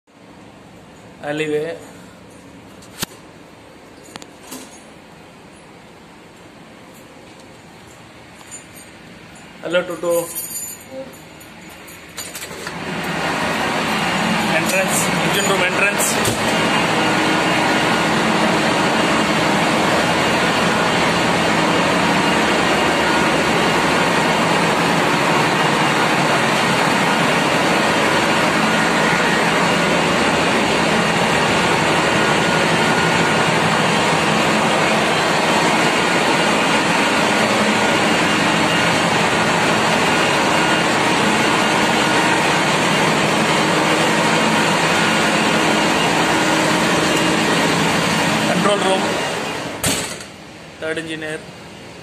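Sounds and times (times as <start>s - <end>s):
engine room machinery din: 0.1s - 52.0s.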